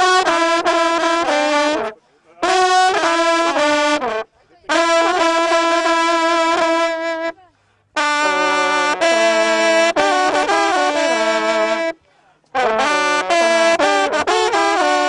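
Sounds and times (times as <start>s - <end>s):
hunting horn fanfare: 0.0s - 15.0s.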